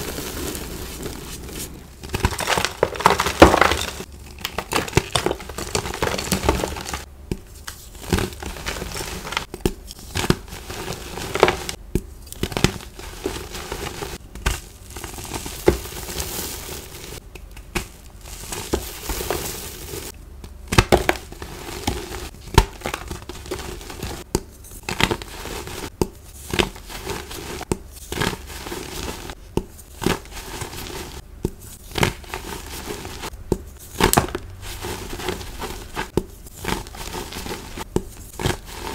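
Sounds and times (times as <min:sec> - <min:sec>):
hands crushing chalk blocks: 0:00.0 - 0:38.9.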